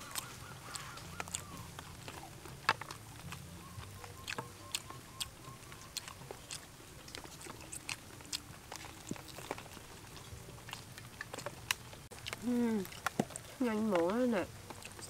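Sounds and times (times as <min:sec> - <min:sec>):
crunching fried chicken: 0:00.0 - 0:15.0.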